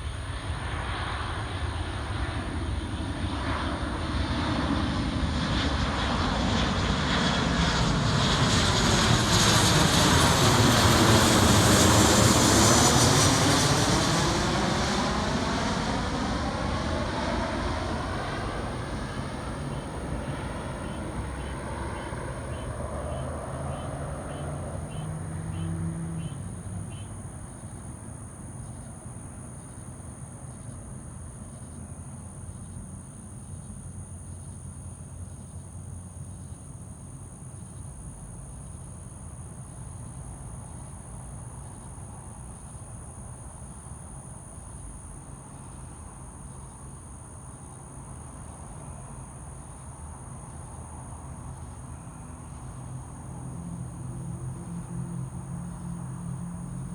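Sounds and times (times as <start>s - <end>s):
distant jet engine: 0.0s - 56.9s
night insects chorus: 0.0s - 56.9s.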